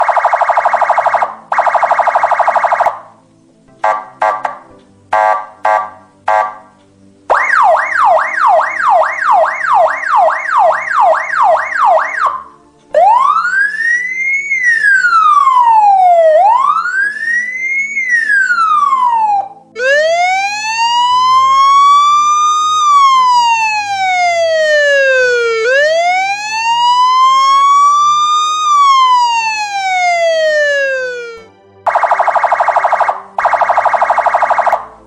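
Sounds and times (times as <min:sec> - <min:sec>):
electronic police siren: 0:00.0 - 0:03.0, 0:07.3 - 0:35.0.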